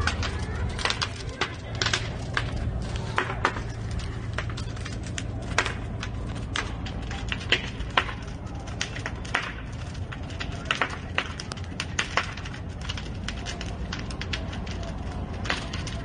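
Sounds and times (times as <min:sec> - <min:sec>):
fire crackling and popping: 0:00.0 - 0:16.0
fire low rumble: 0:00.0 - 0:16.0.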